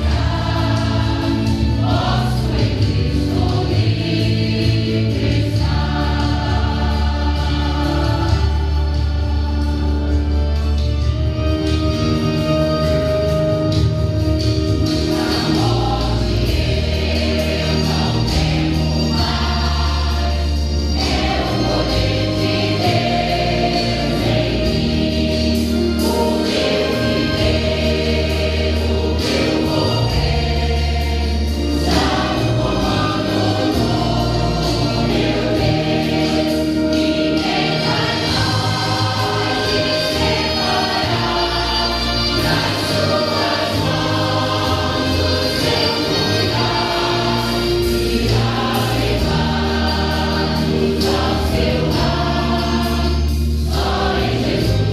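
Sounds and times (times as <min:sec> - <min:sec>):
choir singing a hymn: 0:00.0 - 0:54.9
instrumental accompaniment: 0:00.0 - 0:54.9.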